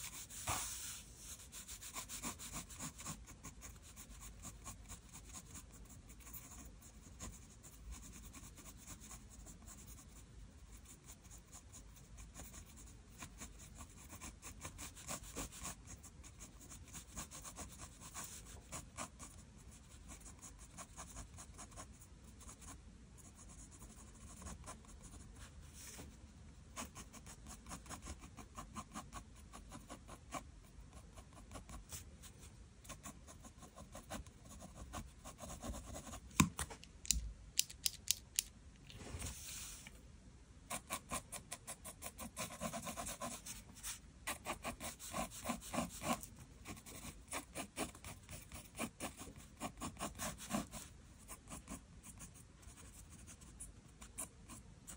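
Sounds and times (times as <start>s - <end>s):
pencil sketching on paper: 0.0s - 26.1s, 26.8s - 36.2s, 40.7s - 54.9s.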